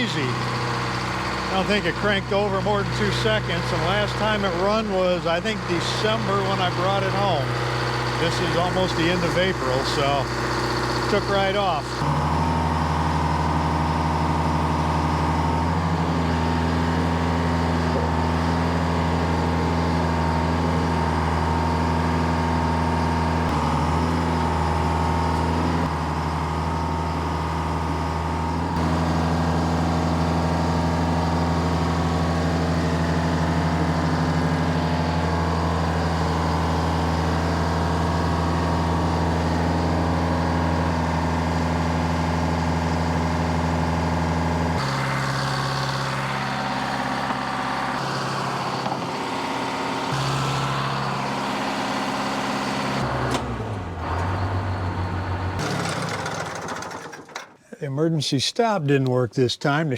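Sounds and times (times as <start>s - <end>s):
diesel excavator engine running: 0.0s - 57.7s.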